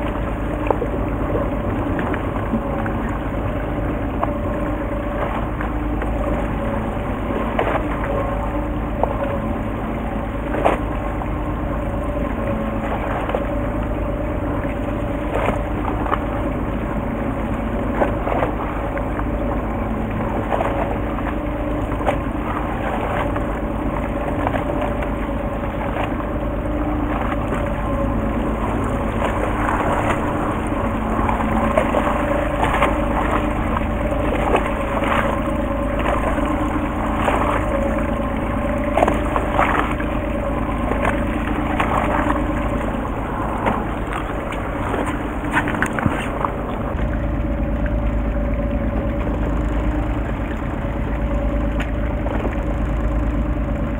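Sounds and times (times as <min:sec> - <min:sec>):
boat engine humming: 0:00.0 - 0:53.9.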